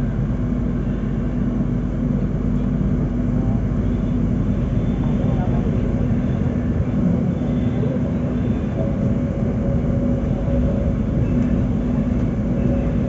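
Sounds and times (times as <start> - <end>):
constant low hum: 0.0 - 13.0
train rumble inside carriage: 0.0 - 13.0.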